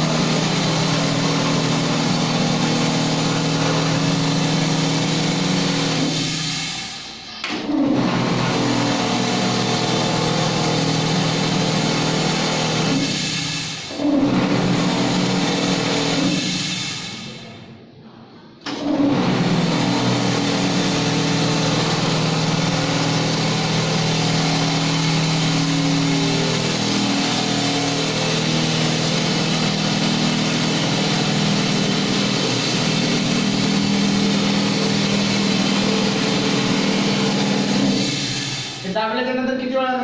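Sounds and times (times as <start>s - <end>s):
electric motor and pump humming: 0.0s - 17.5s, 18.6s - 38.9s.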